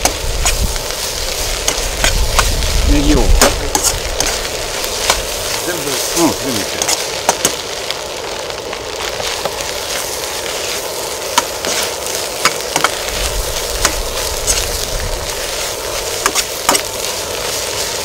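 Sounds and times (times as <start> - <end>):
sharp pops and clicks: 0.0 - 17.3
food sizzling in a pan: 0.0 - 18.0.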